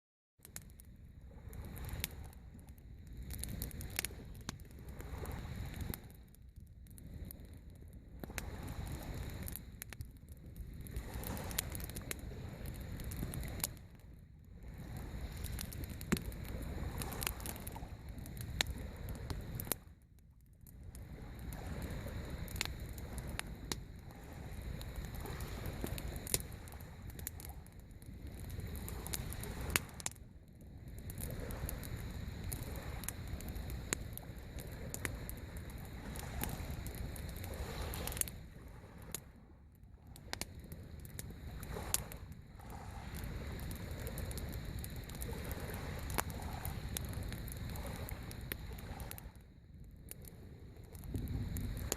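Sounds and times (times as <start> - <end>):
campfire popping and crackling: 0.4 - 39.4, 40.0 - 51.9
waves washing onto shore: 1.3 - 2.4, 3.1 - 6.2, 7.0 - 9.8, 10.6 - 14.0, 14.6 - 19.9, 20.9 - 30.2, 30.8 - 49.4.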